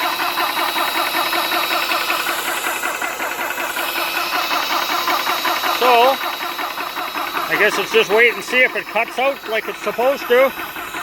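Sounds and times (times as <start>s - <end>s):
air compressor pumping: 0.0s - 11.0s.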